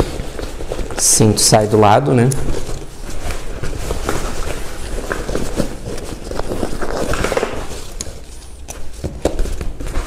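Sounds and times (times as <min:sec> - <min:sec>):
fabric rustling against plastic: 0:00.0 - 0:10.0.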